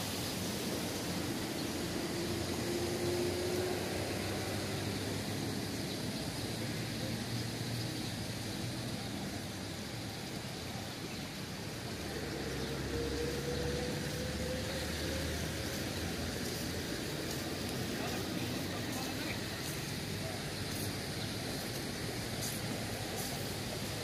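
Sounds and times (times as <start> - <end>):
road vehicles: 0.0 - 24.0.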